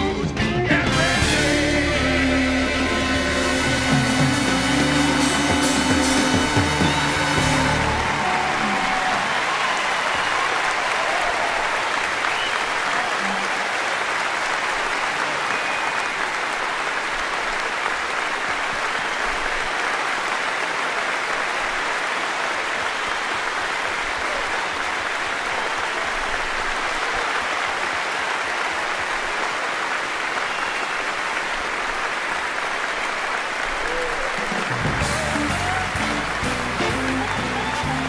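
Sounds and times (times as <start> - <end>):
large audience applauding: 2.4 - 38.0.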